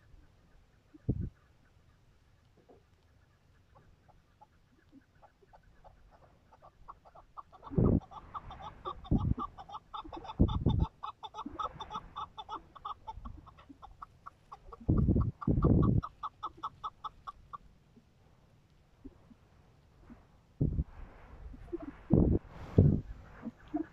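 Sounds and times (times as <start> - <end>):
partridge clucking calls: 0.0 - 17.7, 21.5 - 23.9.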